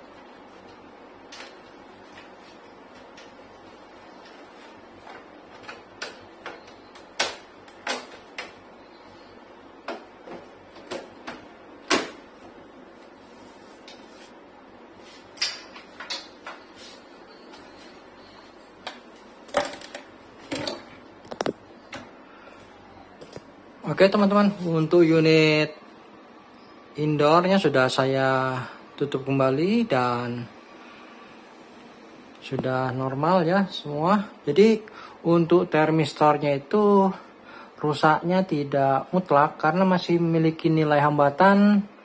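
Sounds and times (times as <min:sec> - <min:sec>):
air conditioner hiss: 0:00.0 - 0:42.0.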